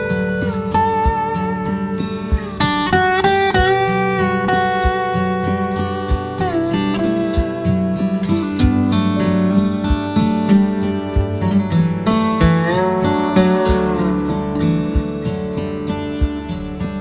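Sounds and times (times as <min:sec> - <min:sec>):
acoustic guitar picked and strummed: 0:00.0 - 0:17.0.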